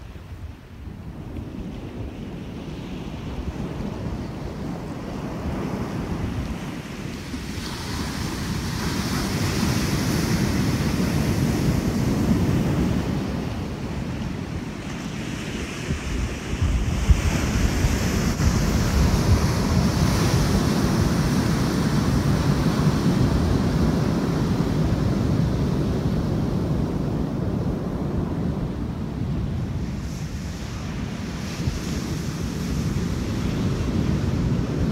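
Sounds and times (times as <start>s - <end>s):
wind buffeting microphone: 0.0s - 34.9s
ocean surf breaking: 2.2s - 34.9s.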